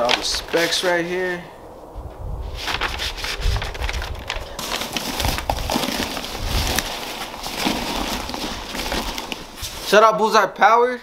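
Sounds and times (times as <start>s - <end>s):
paper and cardboard rustling: 0.0s - 1.2s, 2.5s - 10.3s.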